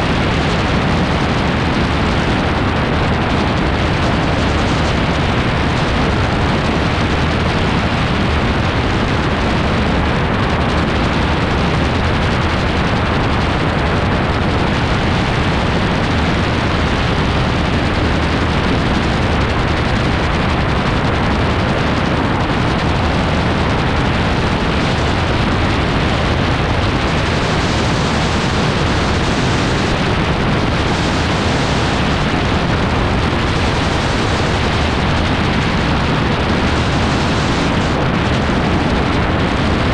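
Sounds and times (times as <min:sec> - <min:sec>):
engine drone: 0:00.0 - 0:39.9
wind rushing over microphone: 0:00.0 - 0:39.9.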